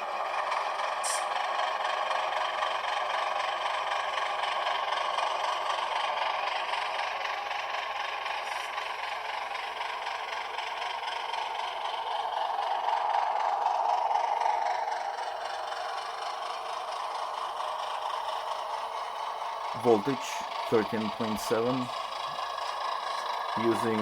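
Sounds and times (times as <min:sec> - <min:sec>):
model diesel engine sound: 0:00.0 - 0:24.0.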